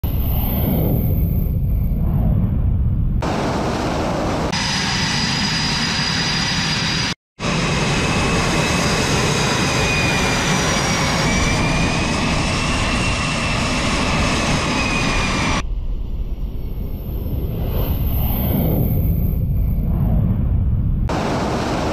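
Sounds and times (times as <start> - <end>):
jet engines with turbine whine: 0.0 - 21.9.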